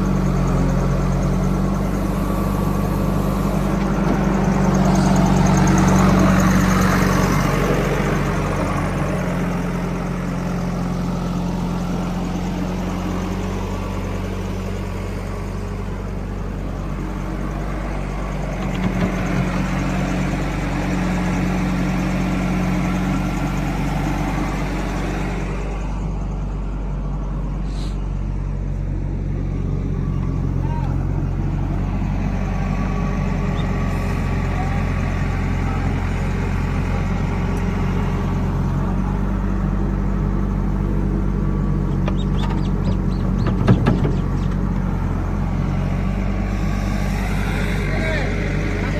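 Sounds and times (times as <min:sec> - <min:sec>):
heavy machinery diesel engine: 0:00.0 - 0:48.9.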